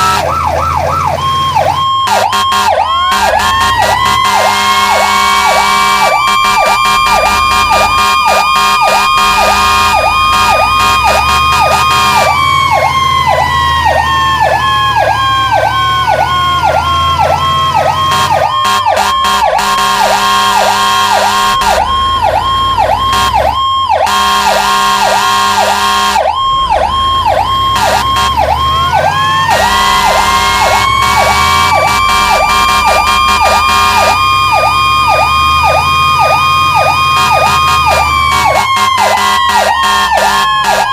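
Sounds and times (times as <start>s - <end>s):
high wailing siren: 0.0s - 40.9s
yelping warble siren: 0.0s - 40.9s.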